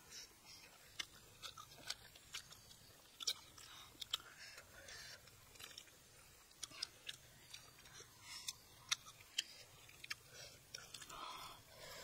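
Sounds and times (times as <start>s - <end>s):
people chewing fish: 0.0s - 12.0s.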